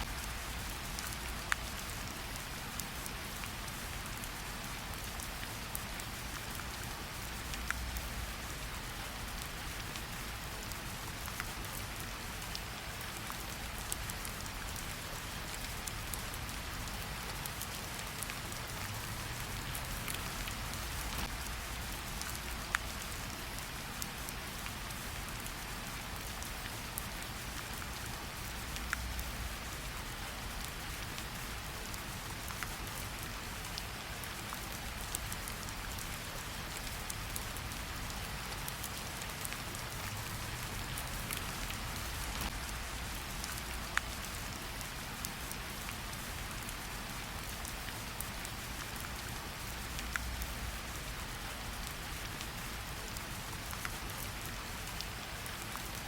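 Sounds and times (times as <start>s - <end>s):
light rain on tree leaves: 0.0s - 56.0s.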